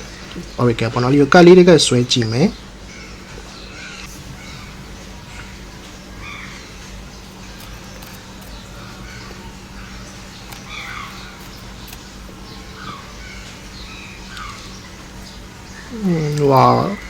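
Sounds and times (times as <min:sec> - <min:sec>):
steady low hum: 0:00.0 - 0:17.0
crows cawing: 0:02.9 - 0:17.0.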